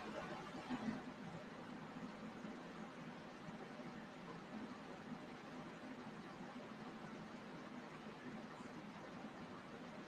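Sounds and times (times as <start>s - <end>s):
faint hiss with low hum: 0.0s - 10.0s.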